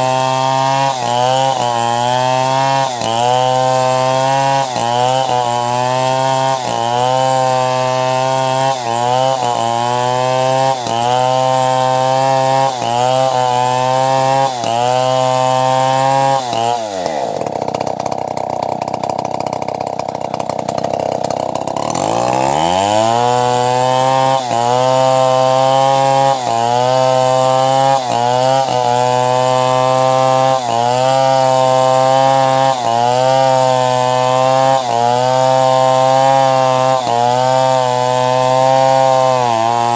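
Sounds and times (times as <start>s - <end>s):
chainsaw ripping timber: 0.0s - 39.9s.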